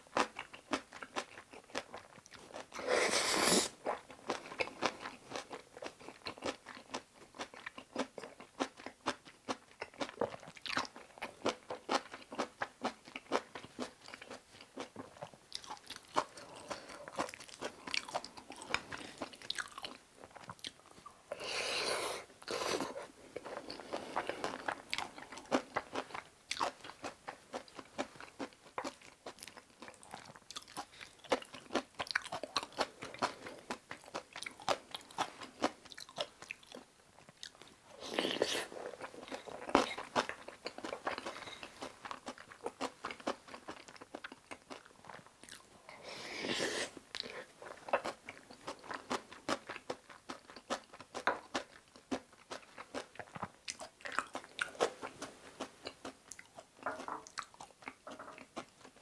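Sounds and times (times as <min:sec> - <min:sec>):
wet chewing with small crunches: 0:00.0 - 0:03.0, 0:03.7 - 0:21.6, 0:22.4 - 0:46.0, 0:46.6 - 0:59.0.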